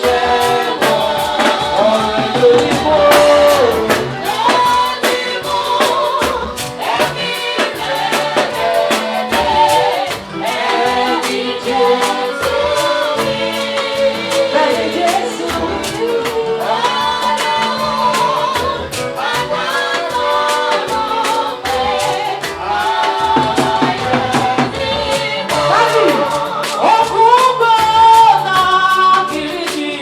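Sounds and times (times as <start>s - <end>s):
band with drums: 0.0s - 30.0s
voices singing gospel: 0.0s - 30.0s.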